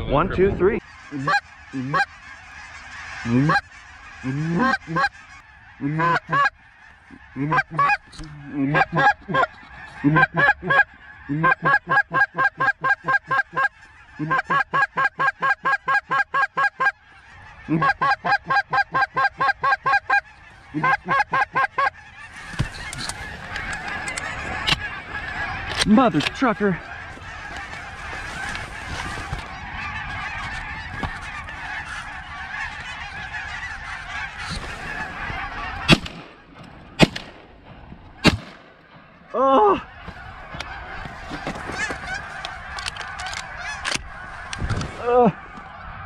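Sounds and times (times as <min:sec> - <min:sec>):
geese honking: 0:00.2 - 0:46.0.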